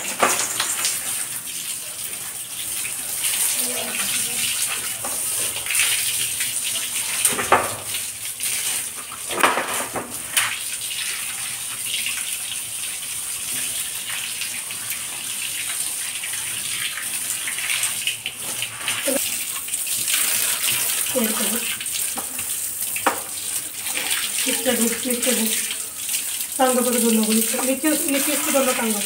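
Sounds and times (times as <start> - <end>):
hose water spraying: 0.0 - 11.3, 13.4 - 29.0.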